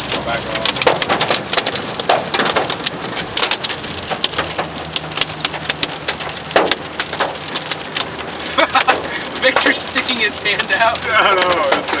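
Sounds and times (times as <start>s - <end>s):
heavy rain: 0.0s - 12.0s
raindrops striking close: 0.0s - 12.0s.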